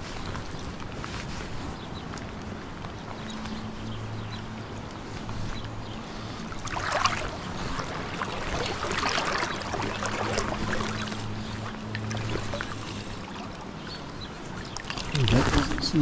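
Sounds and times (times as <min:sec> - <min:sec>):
river water rippling and splashing: 0:00.0 - 0:16.0
low steady hum: 0:02.4 - 0:16.0.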